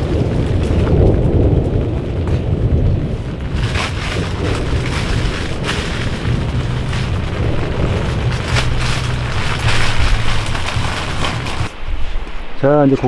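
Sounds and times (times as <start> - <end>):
fire crackling pops: 0.0 - 12.6
fire rumbling: 0.0 - 13.0.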